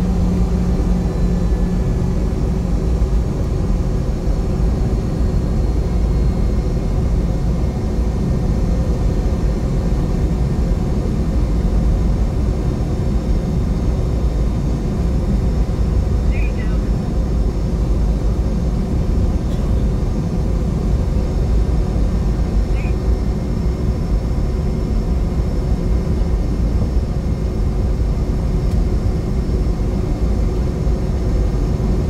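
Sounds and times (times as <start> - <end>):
jet engines running: 0.0 - 32.0
low hum: 0.0 - 32.0.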